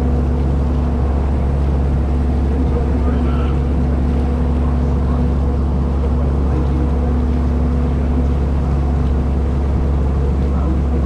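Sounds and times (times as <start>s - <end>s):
boat engine deep drone: 0.0s - 11.0s.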